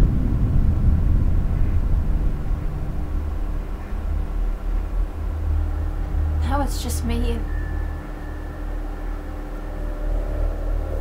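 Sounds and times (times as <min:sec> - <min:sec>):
faint hum of held tones: 0:00.0 - 0:11.0
low rumbling drone: 0:00.0 - 0:11.0.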